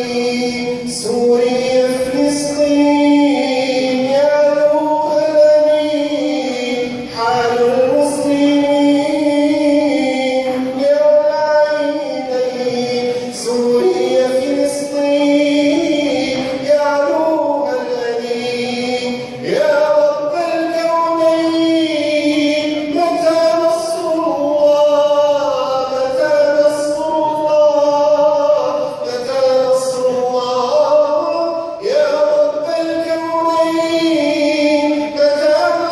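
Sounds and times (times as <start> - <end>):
man singing slow melody: 0.0 - 35.9.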